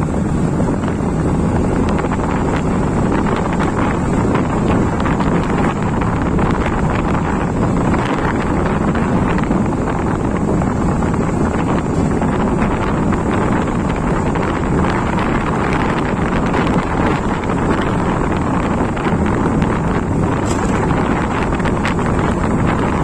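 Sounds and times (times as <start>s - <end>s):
motorcycle engine: 0.0s - 23.0s
road noise: 0.0s - 23.0s
wind buffeting microphone: 0.0s - 23.0s.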